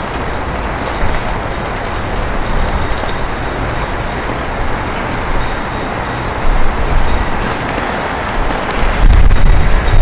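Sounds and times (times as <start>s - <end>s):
city street noise: 0.0s - 10.0s.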